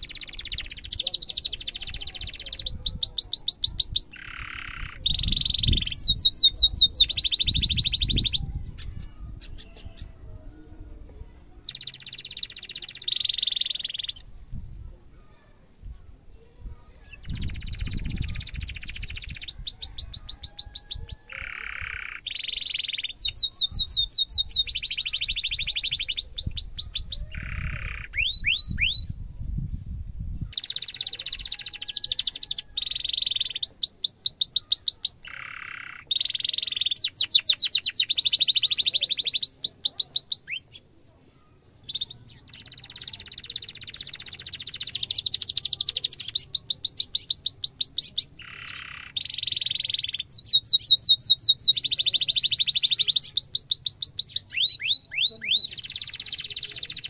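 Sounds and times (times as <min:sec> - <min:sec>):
canary singing trills: 0:00.0 - 0:10.7, 0:11.6 - 0:14.3, 0:17.0 - 0:29.1, 0:30.4 - 0:41.0, 0:41.6 - 0:57.0.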